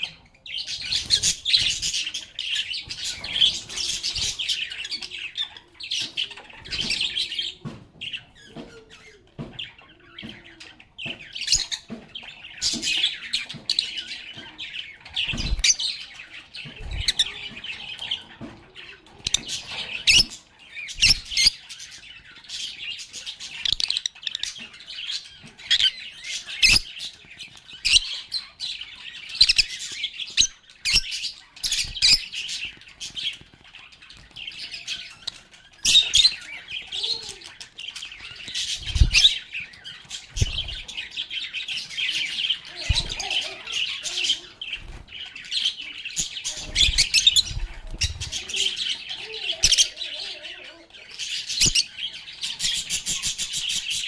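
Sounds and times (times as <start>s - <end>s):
lovebirds chirping and chattering: 0.0s - 54.0s.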